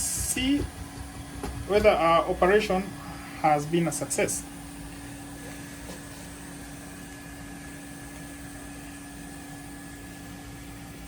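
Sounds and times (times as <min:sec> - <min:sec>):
fan machine whirring hum: 0:00.0 - 0:11.0.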